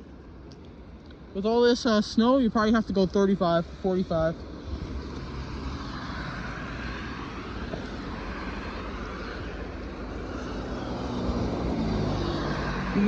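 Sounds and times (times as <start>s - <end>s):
highway traffic rushing: 0.0s - 13.0s
tyres on wet snowy road: 0.0s - 13.0s.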